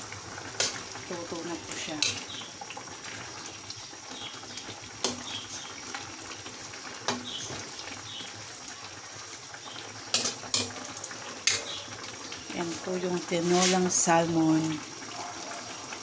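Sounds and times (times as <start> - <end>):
soup simmering in a wok: 0.0 - 16.0.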